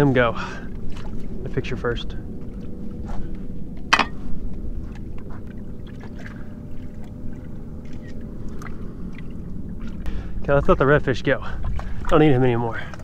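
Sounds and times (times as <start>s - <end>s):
steady low rumble: 0.0s - 13.0s
water lapping against boat hull: 0.0s - 13.0s.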